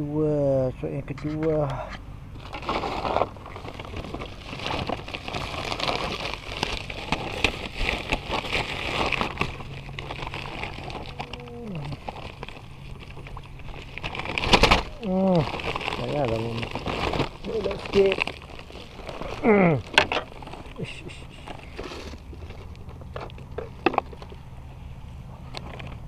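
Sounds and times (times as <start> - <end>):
plastic bag crinkling: 2.4 - 24.6.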